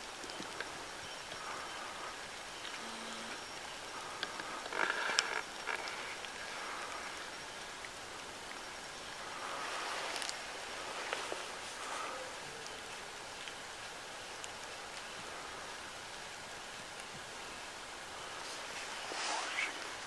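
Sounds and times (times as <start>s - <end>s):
light rain patter: 0.0s - 20.0s.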